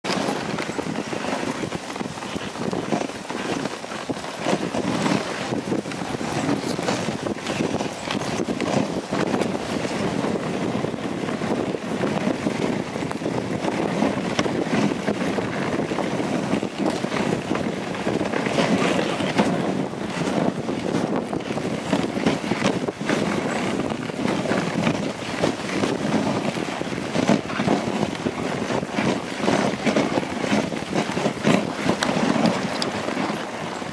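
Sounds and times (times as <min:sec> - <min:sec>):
sled knocks and rattles: 0:00.0 - 0:33.9
sled runners hissing on snow: 0:00.1 - 0:33.9.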